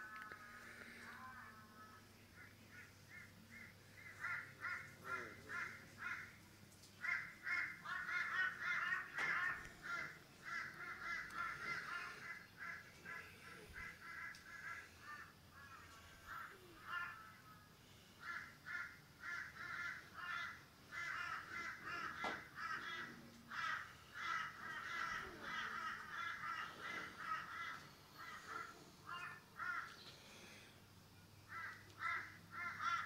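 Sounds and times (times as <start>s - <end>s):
birds calling repeated notes: 0.1s - 30.7s.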